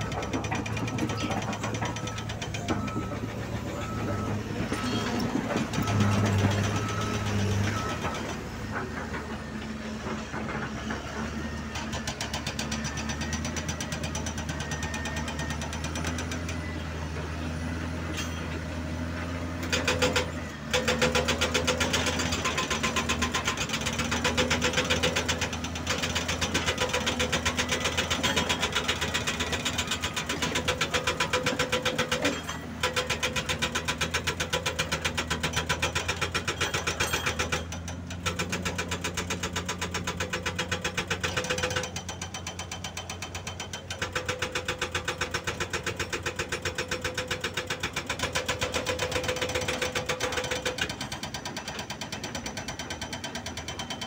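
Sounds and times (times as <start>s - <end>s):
hydraulic breaker hammering rock: 0.0s - 17.2s, 18.0s - 54.0s
heavy diesel engines running: 0.0s - 54.0s.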